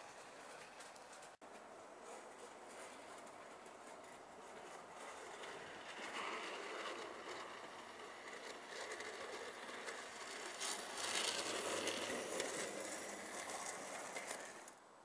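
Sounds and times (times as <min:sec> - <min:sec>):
model train whirring rattle: 0:00.0 - 0:14.8.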